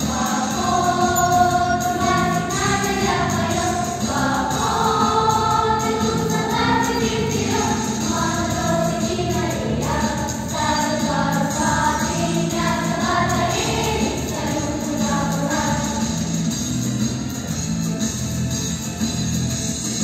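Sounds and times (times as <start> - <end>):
children's choir singing: 0.0 - 17.0
instrumental accompaniment: 0.0 - 20.0.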